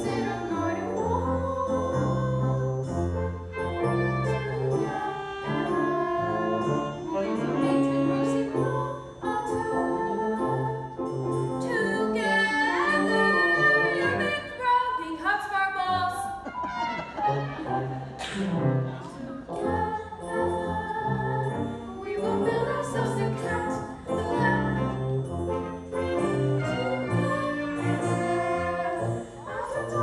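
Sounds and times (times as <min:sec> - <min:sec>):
brass-led orchestra show tune: 0:00.0 - 0:14.8, 0:15.8 - 0:30.0.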